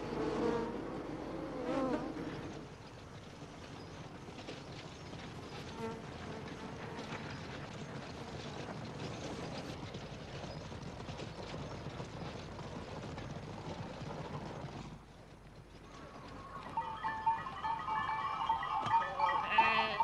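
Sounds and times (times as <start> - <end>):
horses galloping on dirt: 0.0 - 20.0.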